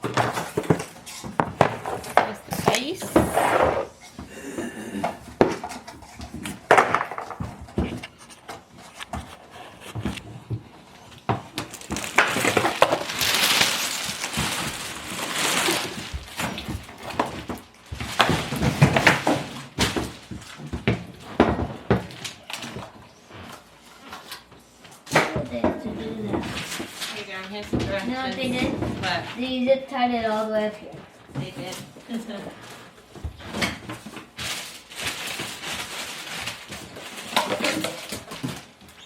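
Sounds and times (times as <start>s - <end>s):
packaging rustling and scraping: 0.0s - 4.2s, 5.4s - 25.1s, 25.9s - 29.6s, 31.4s - 39.0s.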